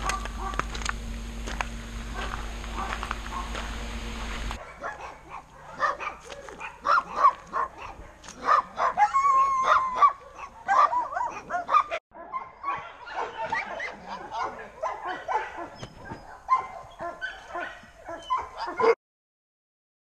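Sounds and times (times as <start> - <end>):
dog drawn-out cry: 0.0 - 0.8, 2.0 - 3.7, 4.5 - 19.0
dogs barking and yipping: 0.0 - 19.0.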